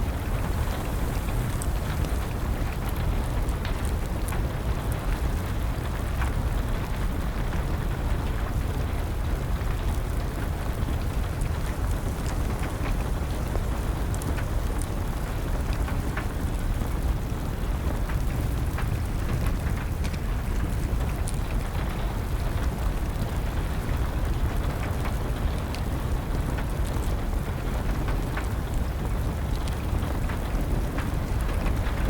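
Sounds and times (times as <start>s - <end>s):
steady rain: 0.0s - 32.0s
wood fire crackling: 0.0s - 32.0s.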